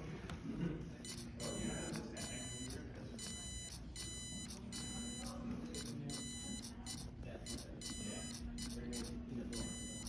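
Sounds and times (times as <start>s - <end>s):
morse code buzzer beeping: 1.0s - 10.0s.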